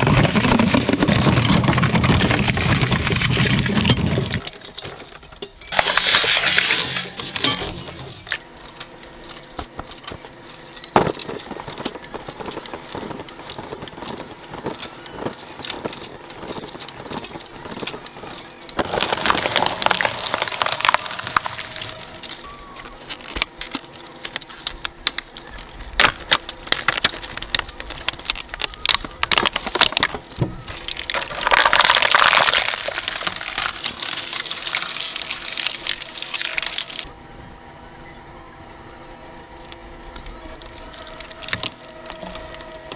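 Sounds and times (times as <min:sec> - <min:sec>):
shredder cracking plastic toys: 0:00.0 - 0:37.1, 0:39.6 - 0:42.9
shredder grinding: 0:00.0 - 0:42.9.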